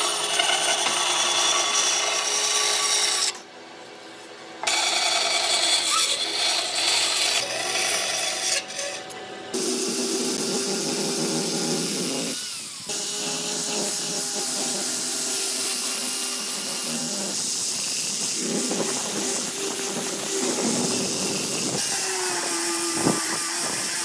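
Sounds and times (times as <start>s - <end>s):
power tool on wood: 0.0s - 3.4s, 4.6s - 24.0s.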